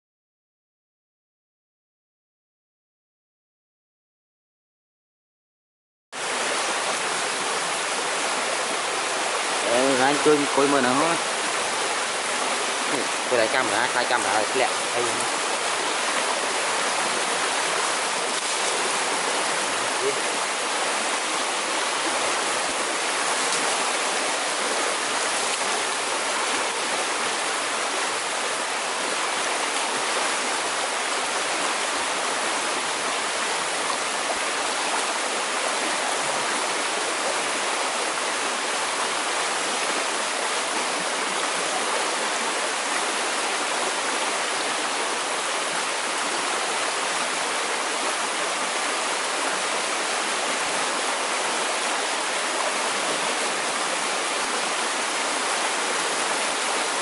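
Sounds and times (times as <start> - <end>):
river rushing over rocks: 6.2 - 57.0.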